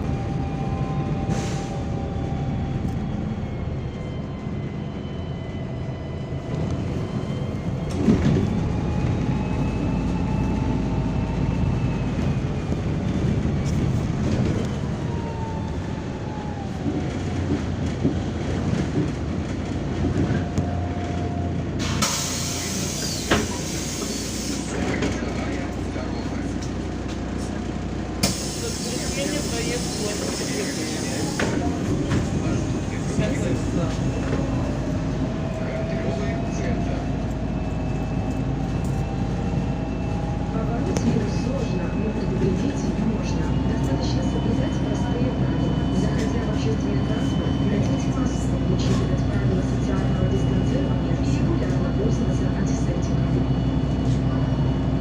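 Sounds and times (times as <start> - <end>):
bus engine and drivetrain noise: 0.0 - 55.0.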